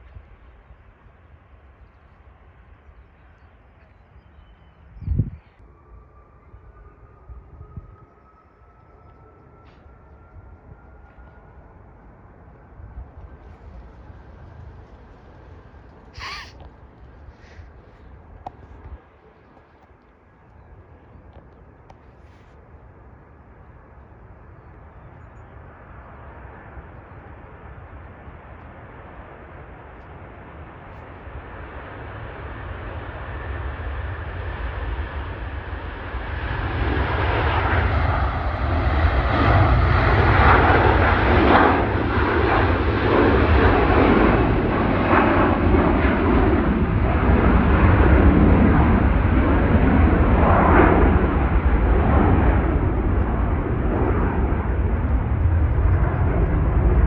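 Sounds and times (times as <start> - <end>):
airliner engines roaring: 0.0 - 57.0.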